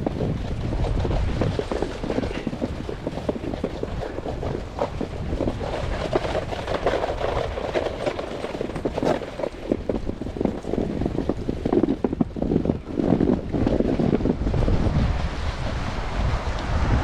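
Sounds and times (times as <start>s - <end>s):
snowboard scraping over snow: 0.0s - 17.0s
wind rumble on microphone: 0.0s - 17.0s.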